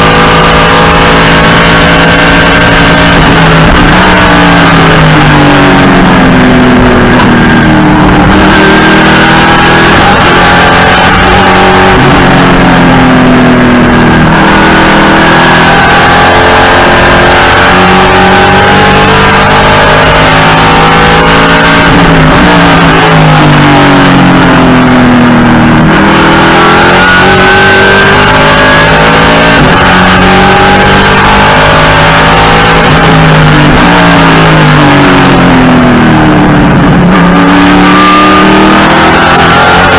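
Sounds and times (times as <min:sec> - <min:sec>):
race car engine accelerating: 0:00.0 - 0:39.9
road and wind noise: 0:00.0 - 0:39.9.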